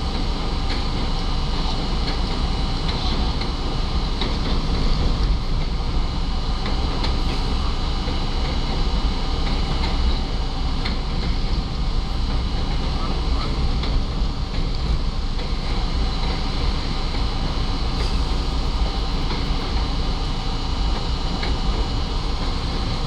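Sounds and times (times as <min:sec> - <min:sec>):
steel wheels rumbling on rail: 0:00.0 - 0:23.0
wheels clicking over rail joints: 0:00.0 - 0:23.0.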